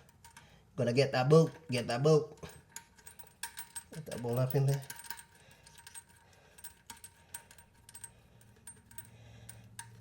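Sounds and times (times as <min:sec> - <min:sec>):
metallic clicks of bolt and washers: 0:01.5 - 0:10.0.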